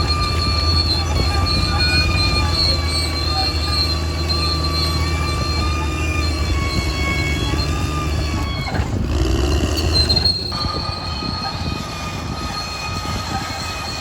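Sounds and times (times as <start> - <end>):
bulldozer diesel engine running: 0.0 - 14.0
steel tracks squealing: 0.0 - 14.0.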